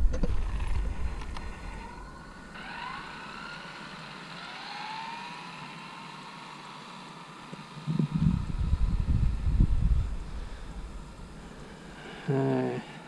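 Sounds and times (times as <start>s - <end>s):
distant electric motor whine: 0.0s - 13.0s.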